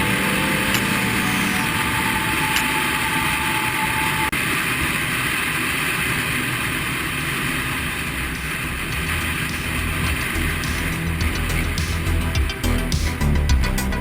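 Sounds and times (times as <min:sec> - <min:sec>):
vehicle engine noise: 0:00.0 - 0:14.0.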